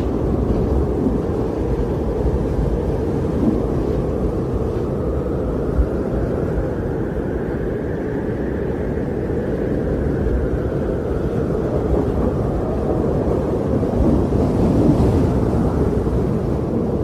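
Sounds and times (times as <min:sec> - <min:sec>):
wind blowing: 0:00.0 - 0:17.0.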